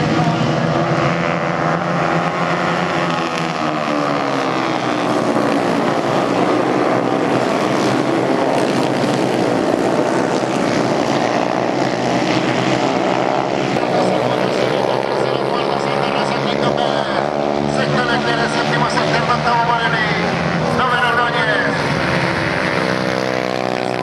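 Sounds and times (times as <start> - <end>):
racing motorcycle engines: 0.0 - 24.0.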